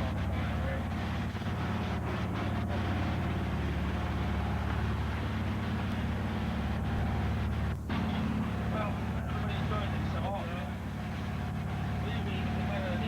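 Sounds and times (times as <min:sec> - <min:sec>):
boat engine droning: 0:00.0 - 0:13.0
wind: 0:00.0 - 0:13.0.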